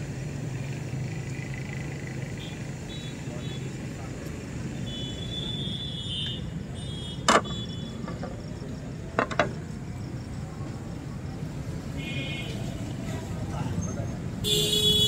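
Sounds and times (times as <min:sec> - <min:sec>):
street background rumble: 0:00.0 - 0:15.0.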